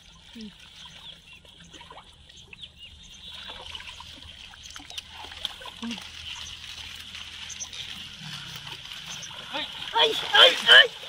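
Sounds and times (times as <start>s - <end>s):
small drips and clicks: 0.0s - 10.3s
water splashing and trickling: 0.0s - 11.0s.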